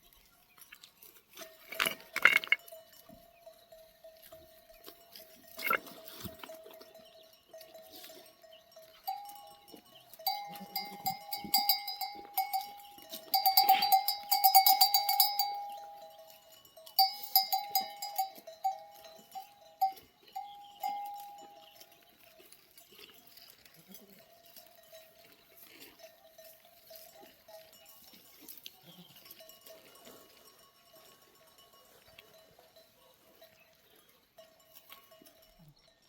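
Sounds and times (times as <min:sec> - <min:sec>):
sheep and goat bells clanking: 0:00.0 - 0:36.0.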